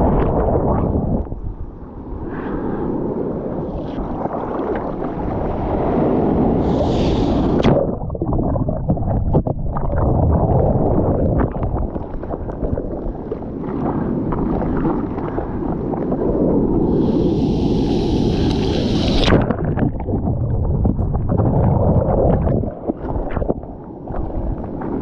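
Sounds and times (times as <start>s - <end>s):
wind buffeting microphone: 0.0s - 25.0s
surf rushing and splashing: 1.8s - 8.1s, 10.0s - 25.0s.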